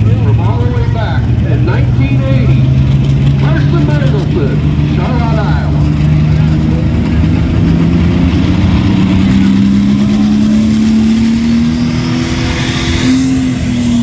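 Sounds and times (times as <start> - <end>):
tractor engine at full throttle: 0.0 - 14.0.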